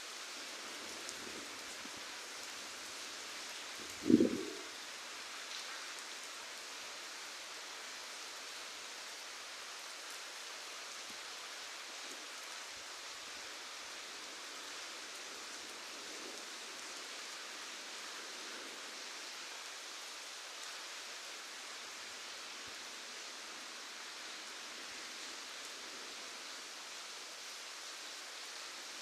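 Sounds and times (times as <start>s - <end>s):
steady rain hiss: 0.0s - 29.0s.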